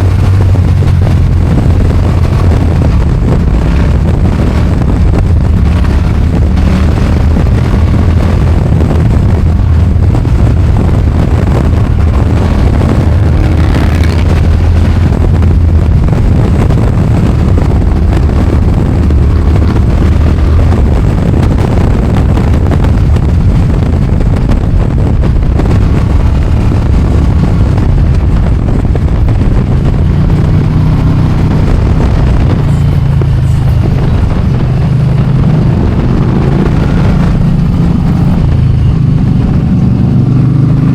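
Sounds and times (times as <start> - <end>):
motorcycle engine running: 0.0 - 40.9
wind rush: 0.0 - 40.9.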